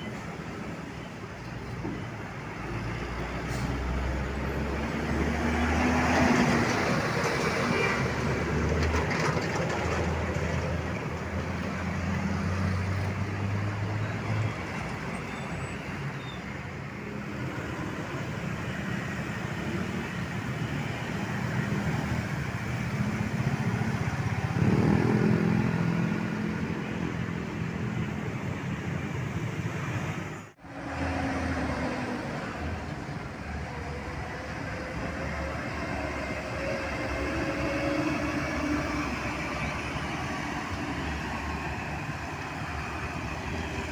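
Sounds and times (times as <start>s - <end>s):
heavy vehicles passing: 0.0s - 43.9s.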